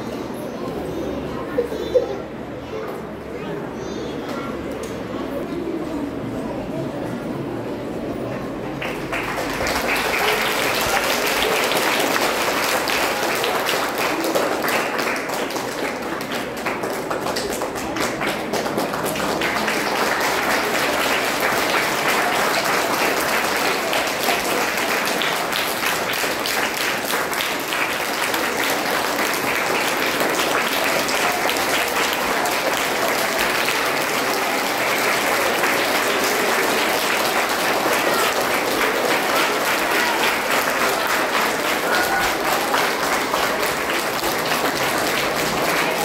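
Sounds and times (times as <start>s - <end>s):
audience applauding: 8.6s - 46.0s.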